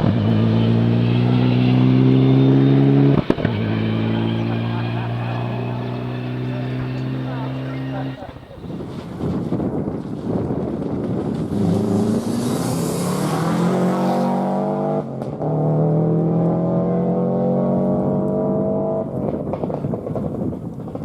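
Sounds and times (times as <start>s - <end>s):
rally car engine accelerating: 0.0s - 9.0s, 11.1s - 21.0s.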